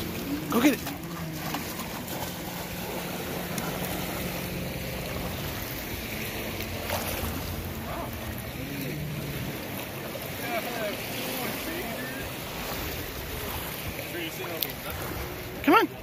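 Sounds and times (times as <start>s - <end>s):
distant motorboat engine drone: 0.0s - 16.0s
water splashing and lapping: 0.0s - 16.0s.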